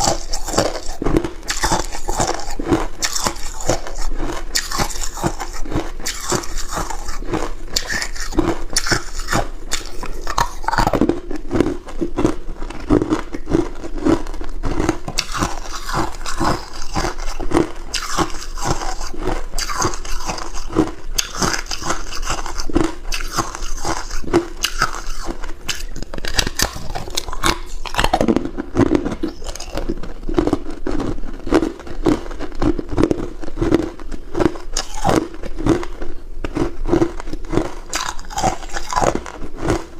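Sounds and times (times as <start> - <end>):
person crunching ice cubes: 0.0 - 39.9.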